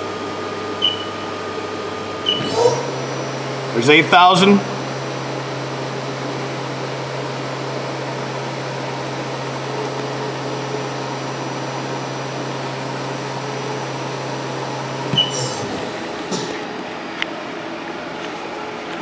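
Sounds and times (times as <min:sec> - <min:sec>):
machine spindle humming: 0:00.0 - 0:16.8.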